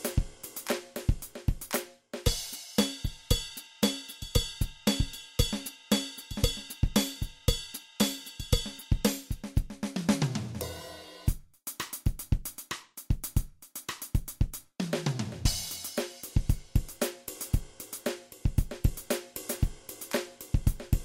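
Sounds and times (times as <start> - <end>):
drum-kit beat music: 0.0 - 21.0.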